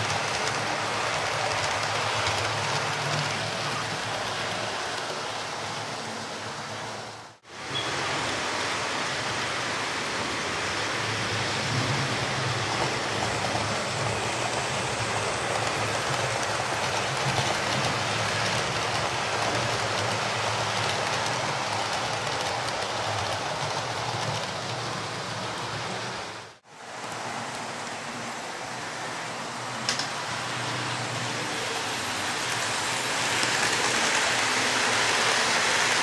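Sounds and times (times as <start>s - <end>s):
model train rattling whir: 0.0s - 7.0s, 7.6s - 28.7s, 29.8s - 36.0s.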